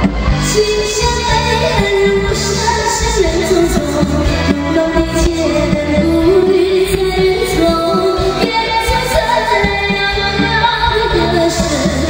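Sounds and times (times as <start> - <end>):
live band playing: 0.0 - 12.0
woman singing pop song: 0.3 - 12.0.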